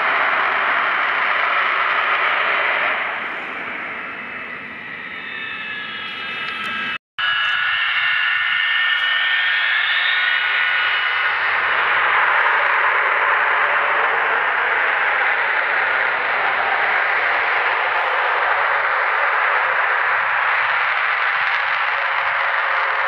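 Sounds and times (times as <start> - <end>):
jet engines rushing and whining: 0.0 - 23.0.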